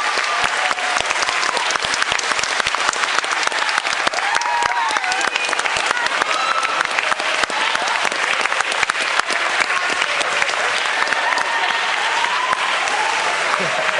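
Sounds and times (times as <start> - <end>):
crowd applauding: 0.0 - 13.9.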